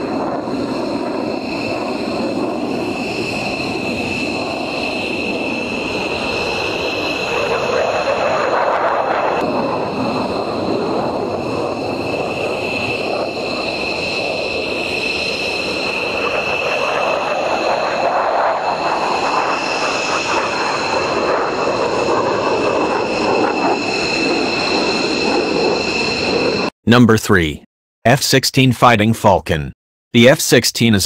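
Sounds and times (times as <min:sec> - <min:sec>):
jet engine roaring: 0:00.0 - 0:26.8.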